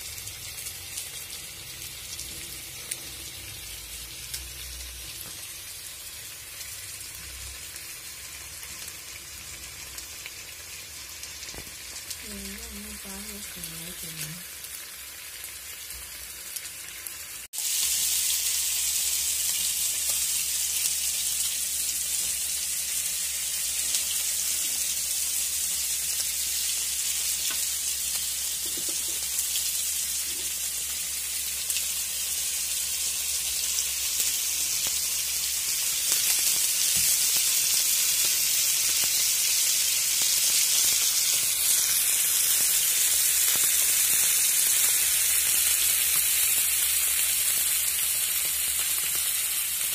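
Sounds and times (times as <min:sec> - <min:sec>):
fish sizzling in oil: 0:00.0 - 0:49.9.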